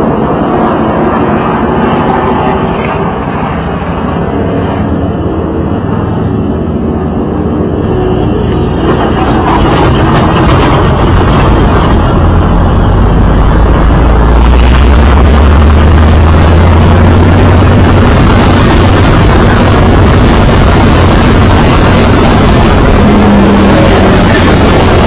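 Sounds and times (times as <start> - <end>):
race car engine droning: 4.1 - 25.0.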